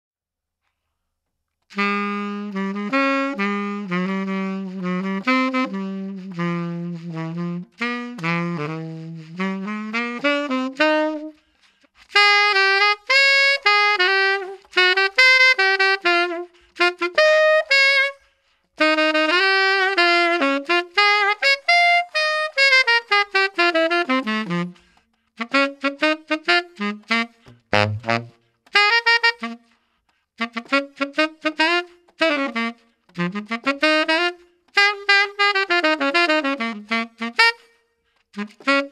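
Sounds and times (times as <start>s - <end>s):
solo tenor saxophone: 1.7s - 38.9s.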